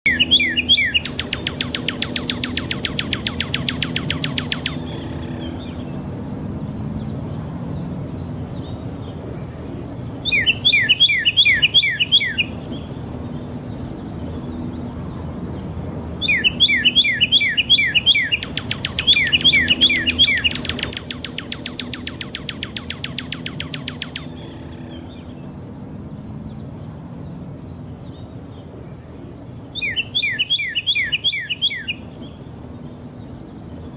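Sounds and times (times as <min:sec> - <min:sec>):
songbird chirping and trilling: 0:00.0 - 0:33.9.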